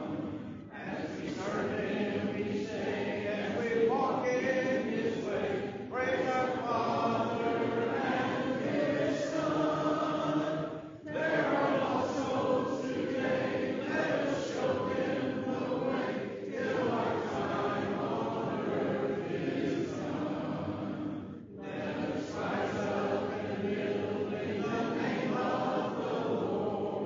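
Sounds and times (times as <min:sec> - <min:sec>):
congregation singing a cappella: 0:00.0 - 0:27.0.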